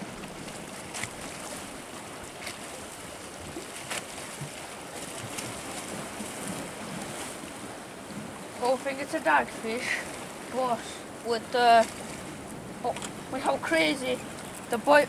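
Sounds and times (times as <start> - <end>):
sea waves washing against rocks: 0.0 - 15.0.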